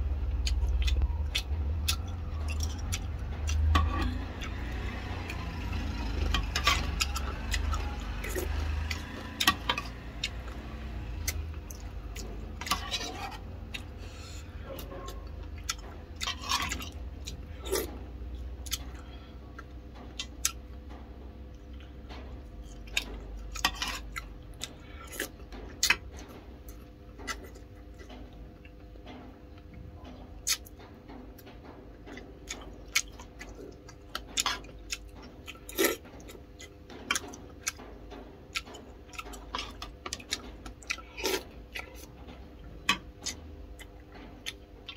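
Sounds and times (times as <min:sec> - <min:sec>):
chewing and eating: 0:00.0 - 0:44.9
low steady hum: 0:00.0 - 0:44.9.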